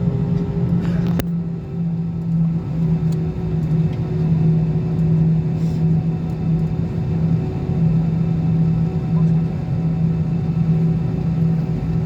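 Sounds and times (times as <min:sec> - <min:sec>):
airliner engines droning: 0:00.0 - 0:12.0.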